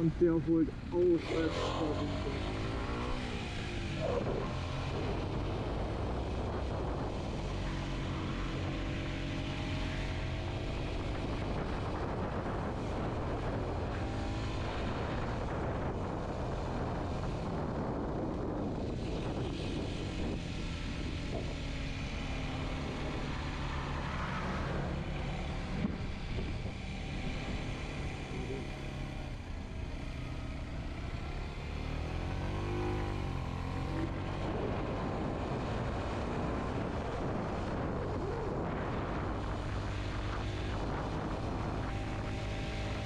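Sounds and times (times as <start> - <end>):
wind noise: 0.0 - 29.5, 31.9 - 43.0
motorcycle engine running: 0.0 - 43.0.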